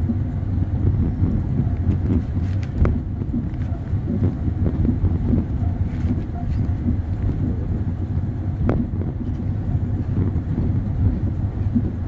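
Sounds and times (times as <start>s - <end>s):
train wheels rumbling on rails: 0.0s - 12.0s
wind noise: 0.0s - 12.0s.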